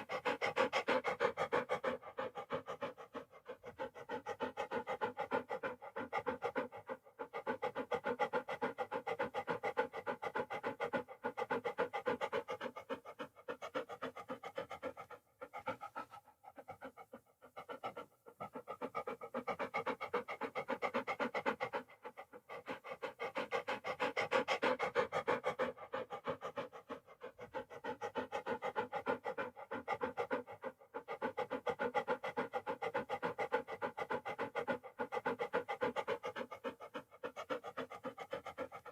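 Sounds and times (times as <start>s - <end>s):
dog panting rapidly: 0.0s - 38.9s.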